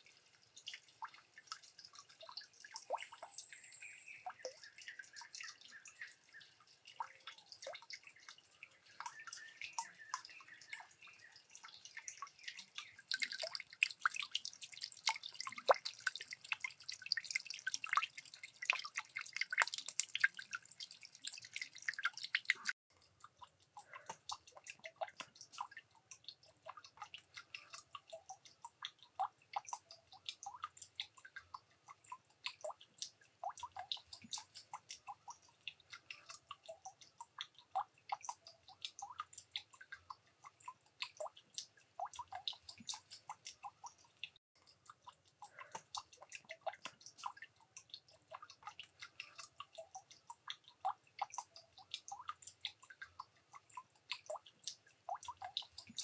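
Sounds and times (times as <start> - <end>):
water dripping into pond: 0.0 - 56.0.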